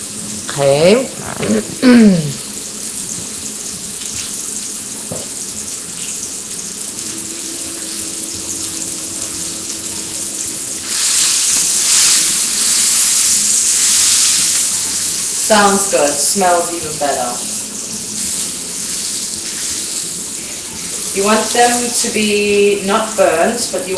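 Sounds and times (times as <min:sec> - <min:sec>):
hot dogs sizzling in a pan: 0:00.0 - 0:23.9.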